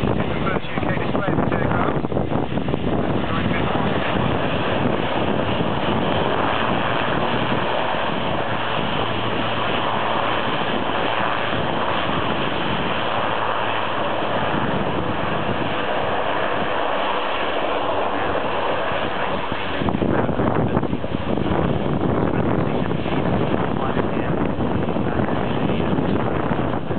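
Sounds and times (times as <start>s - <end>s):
turboprop engines rumbling: 0.0s - 26.9s
wind on microphone: 0.0s - 26.9s.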